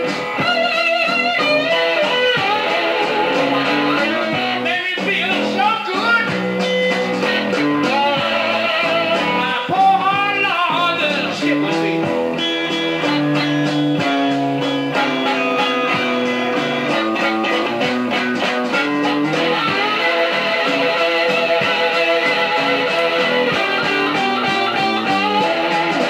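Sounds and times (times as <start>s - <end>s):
blues band playing: 0.0s - 26.0s
electric guitar sliding notes: 0.0s - 26.0s.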